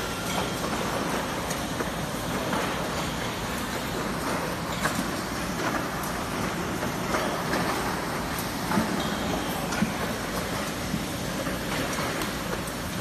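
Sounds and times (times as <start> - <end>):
factory machine noise: 0.0 - 13.0.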